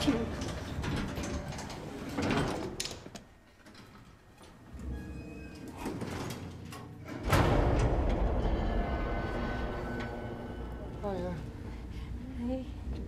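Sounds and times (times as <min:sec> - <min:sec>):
elevator doors sliding: 0:00.0 - 0:11.2.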